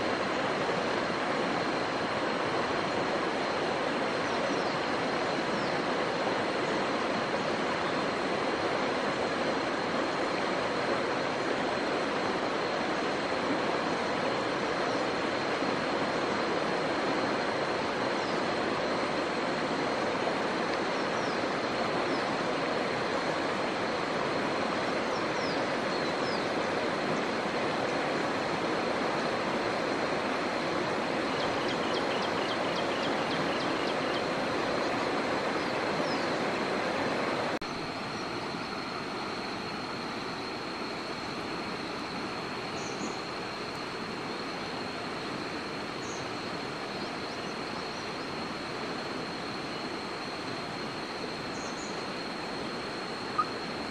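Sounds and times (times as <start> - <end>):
river rushing over rocks: 0.0 - 53.9.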